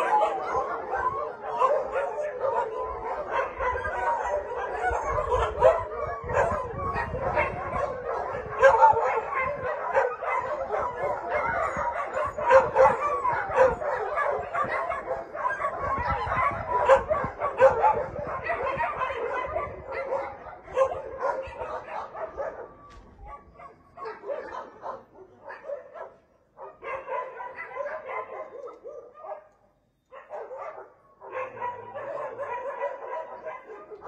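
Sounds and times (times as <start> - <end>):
many dogs barking: 0.0 - 34.0.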